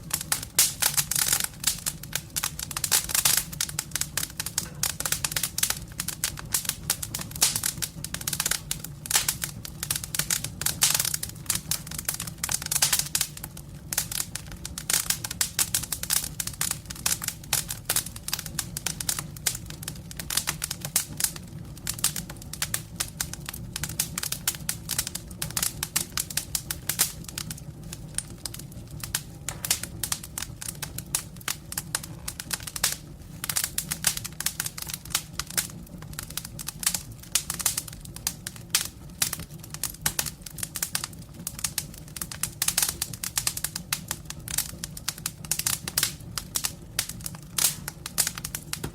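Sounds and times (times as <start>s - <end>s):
campfire wood crackling: 0.0s - 48.9s
low rumble of flames: 0.0s - 48.9s.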